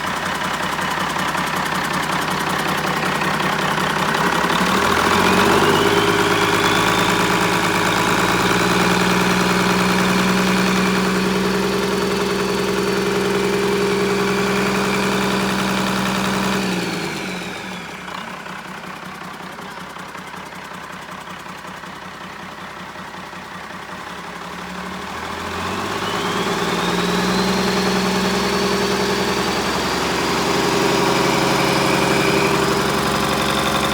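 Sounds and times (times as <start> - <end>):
turbo diesel engine revving: 0.0 - 33.9.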